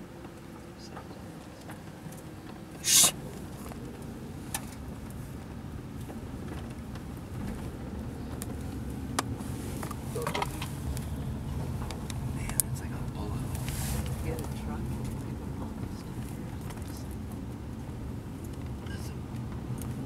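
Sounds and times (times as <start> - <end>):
car rumbling on the move: 0.0 - 20.0.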